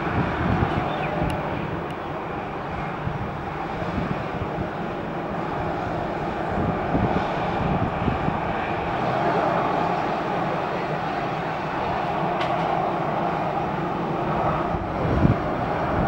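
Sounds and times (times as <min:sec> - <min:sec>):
jet engines humming: 0:00.0 - 0:16.0.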